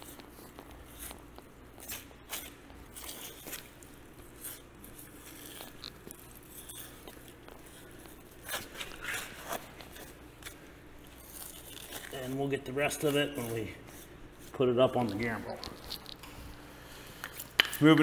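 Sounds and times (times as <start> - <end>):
steady low hum: 0.0 - 18.0
knife scraping hide: 0.8 - 16.1.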